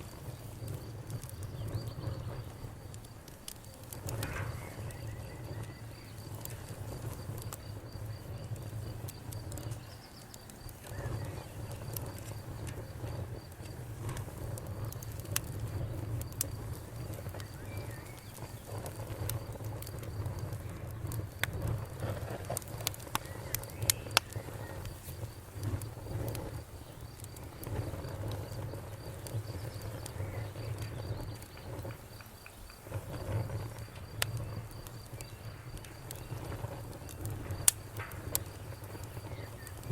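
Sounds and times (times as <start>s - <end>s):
campfire crackling: 0.0s - 39.9s
sharp pops from fire: 0.0s - 39.9s.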